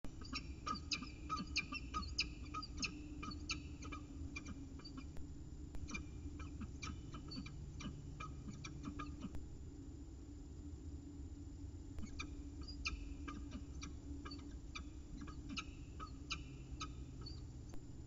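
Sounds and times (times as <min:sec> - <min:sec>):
faint low hum: 0:00.0 - 0:18.0
birds chirping: 0:00.1 - 0:09.4, 0:12.0 - 0:17.7.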